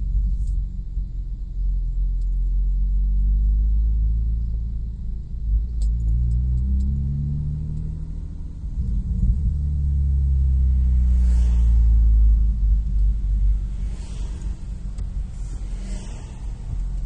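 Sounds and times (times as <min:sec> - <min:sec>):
car engine exhaust rumble: 0:00.0 - 0:17.0.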